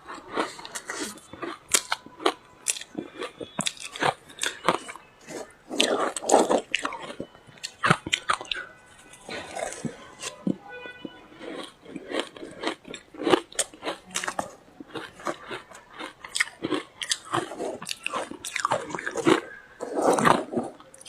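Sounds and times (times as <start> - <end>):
chewing ice crunches: 0.1 - 10.4, 11.4 - 21.0.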